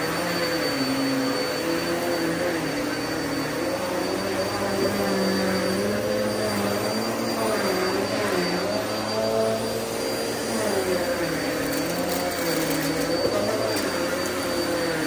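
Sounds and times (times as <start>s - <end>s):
thin high whine: 0.0s - 15.0s
vacuum cleaner running: 0.0s - 15.0s.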